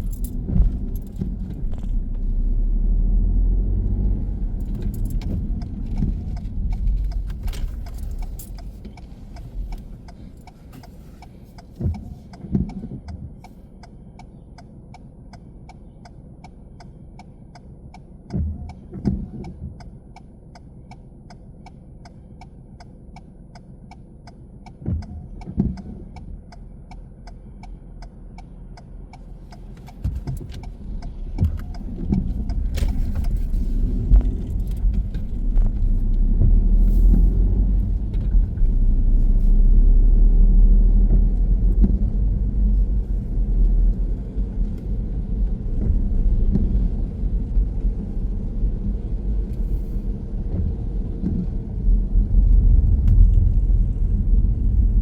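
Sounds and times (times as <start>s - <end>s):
road and engine rumble: 0.0s - 55.0s
turn signal ticking: 0.0s - 55.0s.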